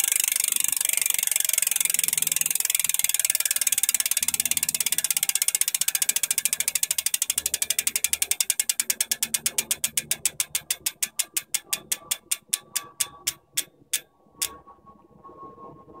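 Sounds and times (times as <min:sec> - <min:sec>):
bicycle hub freewheel clicking: 0:00.0 - 0:14.6.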